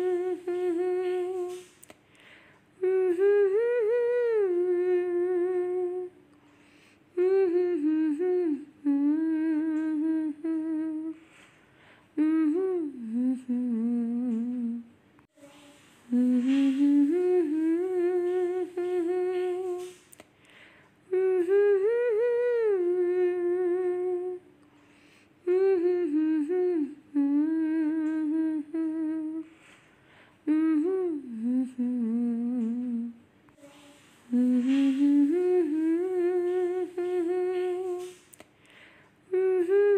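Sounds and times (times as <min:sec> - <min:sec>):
person humming a melody: 0:00.0 - 0:01.8, 0:02.8 - 0:06.2, 0:07.1 - 0:11.3, 0:12.2 - 0:20.2, 0:21.0 - 0:24.5, 0:25.4 - 0:29.6, 0:30.4 - 0:38.4, 0:39.3 - 0:39.9.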